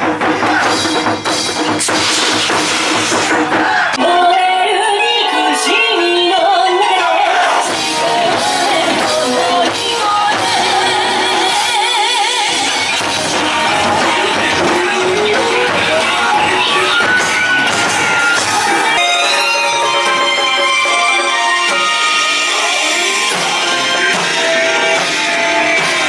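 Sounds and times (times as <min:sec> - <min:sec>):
loud music with singing: 0:00.0 - 0:26.0.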